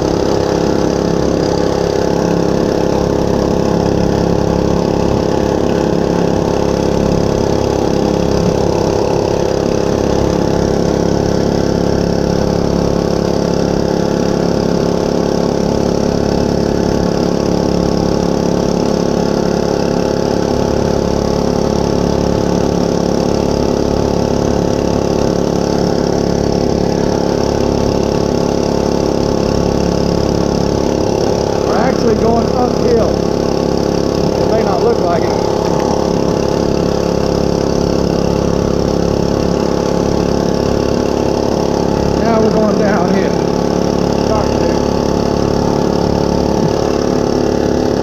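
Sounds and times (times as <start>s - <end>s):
small motorbike engine running: 0.0s - 48.0s.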